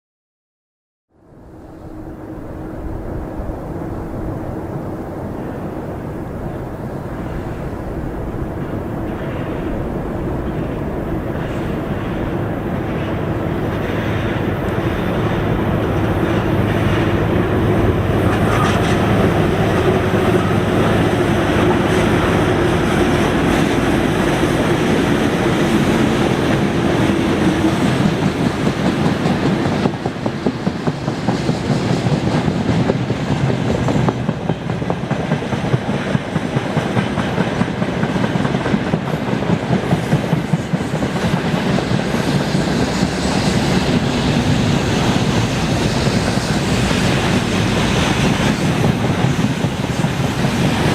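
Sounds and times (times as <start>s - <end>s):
electric locomotive hum: 1.1s - 50.9s
train rolling noise: 1.2s - 50.9s.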